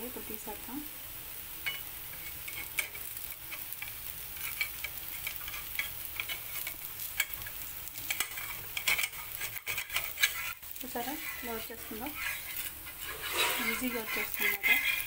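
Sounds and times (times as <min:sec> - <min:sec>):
dosa sizzling on a hot pan: 0:00.0 - 0:15.0
steel turner scraping a pan: 0:01.6 - 0:15.0.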